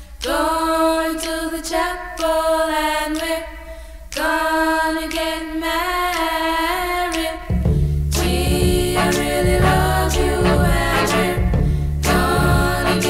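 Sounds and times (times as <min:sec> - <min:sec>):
unaccompanied singing: 0:00.0 - 0:13.0.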